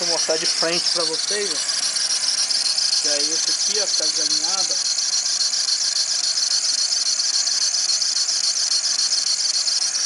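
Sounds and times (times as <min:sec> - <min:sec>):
belt squealing high-pitched: 0:00.0 - 0:10.0
engine running: 0:00.0 - 0:10.0.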